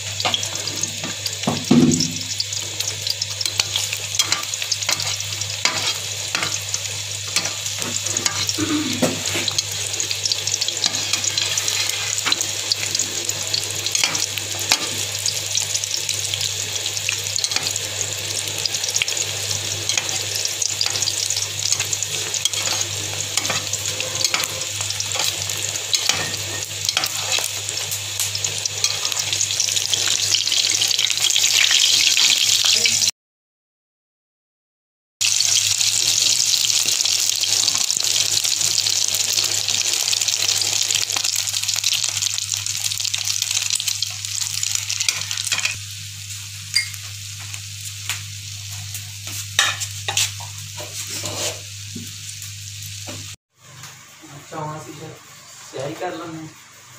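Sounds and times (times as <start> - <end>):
eggs sizzling in oil: 0.0 - 33.1, 35.2 - 56.9.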